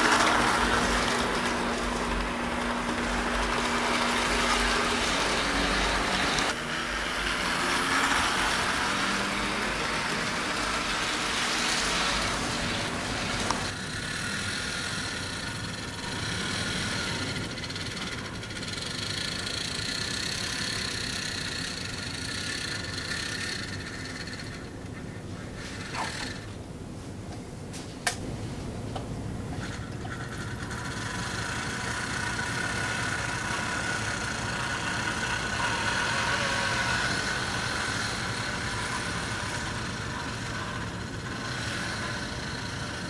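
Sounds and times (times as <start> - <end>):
model train rattling rumble: 0.0 - 26.5, 29.6 - 43.0
model locomotive high whine: 0.0 - 26.6, 29.4 - 43.0.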